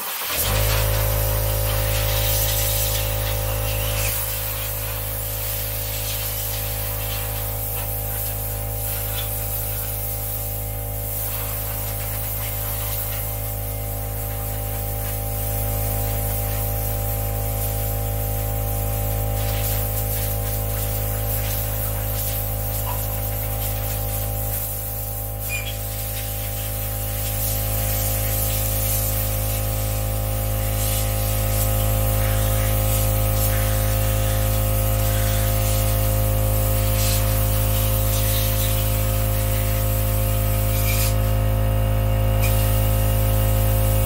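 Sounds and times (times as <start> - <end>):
steady machine hum with hiss: 0.0 - 44.0.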